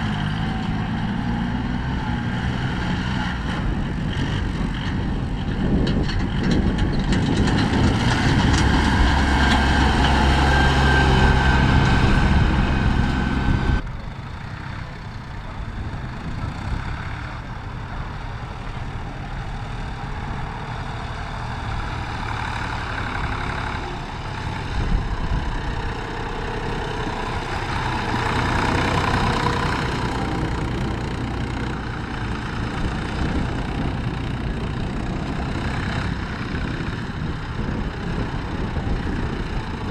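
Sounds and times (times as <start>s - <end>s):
loud tractor engine running: 0.0s - 39.9s
quieter engine running: 0.0s - 39.9s.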